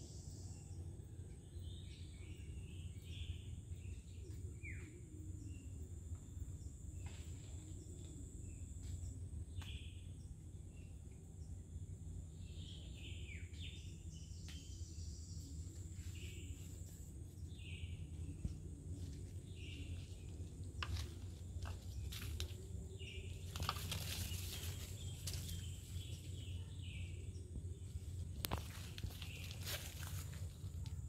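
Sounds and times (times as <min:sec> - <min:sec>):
bird chirping: 0:00.0 - 0:21.0, 0:21.6 - 0:31.0
low steady rumble: 0:00.0 - 0:31.0.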